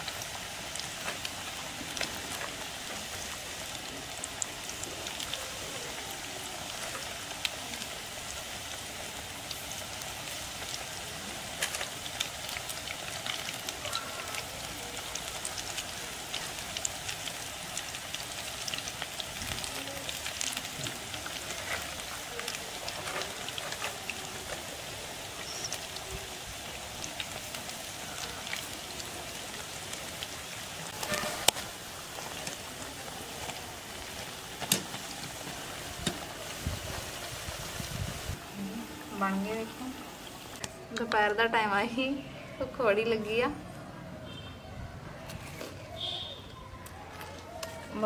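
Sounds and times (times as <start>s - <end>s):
food deep-frying in oil: 0.0s - 43.5s, 45.3s - 48.0s.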